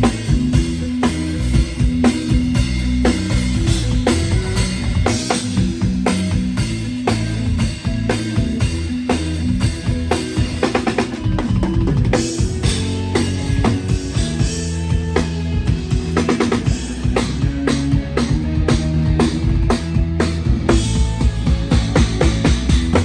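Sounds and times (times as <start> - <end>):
bass line: 0.0 - 23.0
drum kit groove: 0.0 - 23.0.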